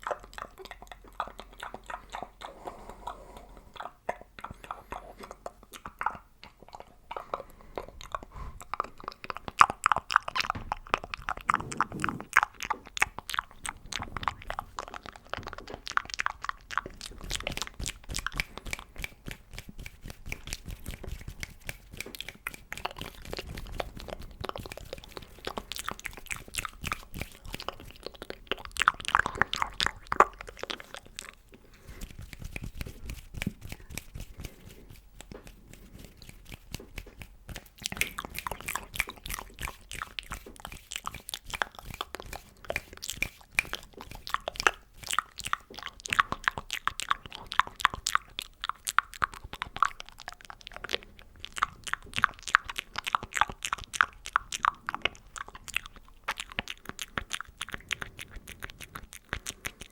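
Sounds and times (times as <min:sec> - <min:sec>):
wet mouth clicks and smacks: 0:00.0 - 0:59.9.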